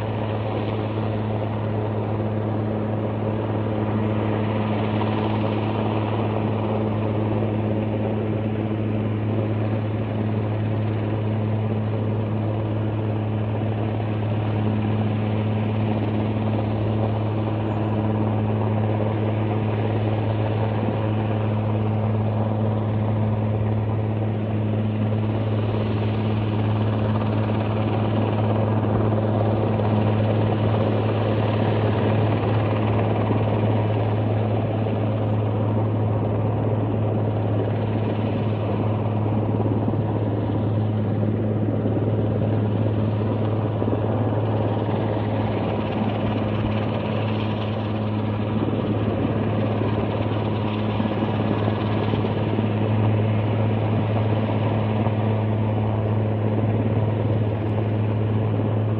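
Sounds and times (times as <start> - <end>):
distant helicopter hovering: 0.0 - 58.9.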